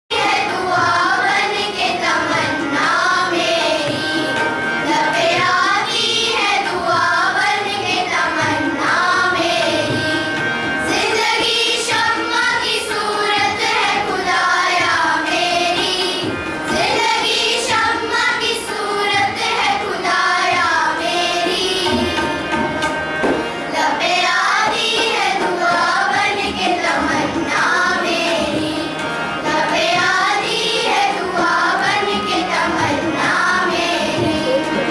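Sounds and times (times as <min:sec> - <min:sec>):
girls choir singing: 0:00.1 - 0:34.9.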